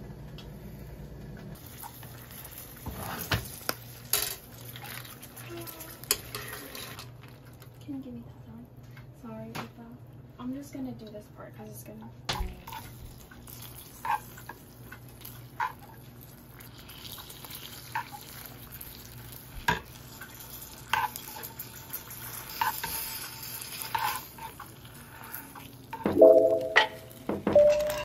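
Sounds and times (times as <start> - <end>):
faint sizzle: 0.0 - 27.2.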